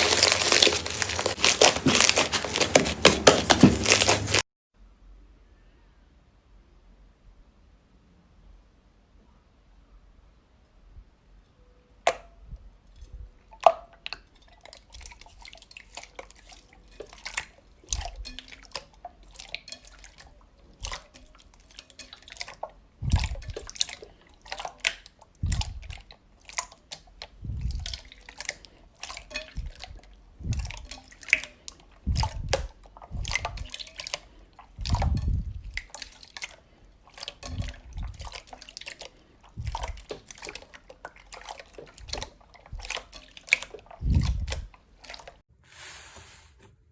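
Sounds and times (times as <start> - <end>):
slime squelch: 0.0 - 4.4, 13.0 - 46.6.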